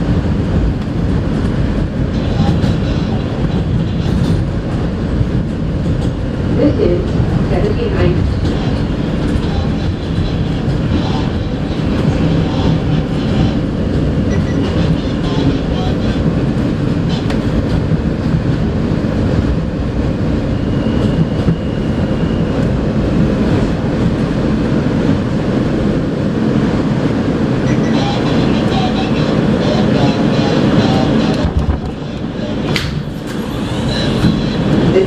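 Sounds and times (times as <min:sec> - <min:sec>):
subway car rumble: 0:00.0 - 0:35.0.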